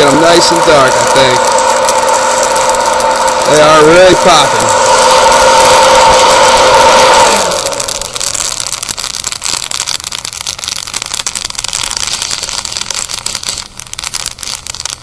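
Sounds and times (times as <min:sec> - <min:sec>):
coffee beans crackling: 0:00.0 - 0:15.0.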